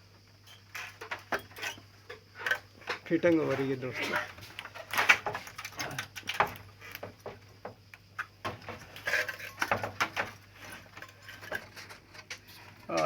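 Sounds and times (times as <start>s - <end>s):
plastic parts clicking and knocking: 2.1s - 13.0s.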